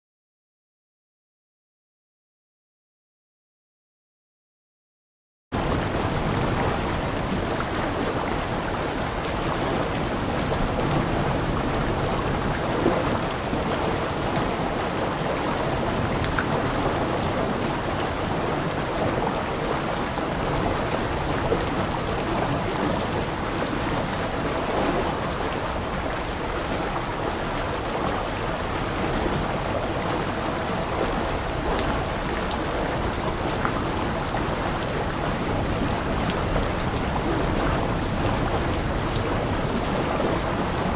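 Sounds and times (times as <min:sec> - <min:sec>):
heavy rain falling: 0:05.6 - 0:40.9.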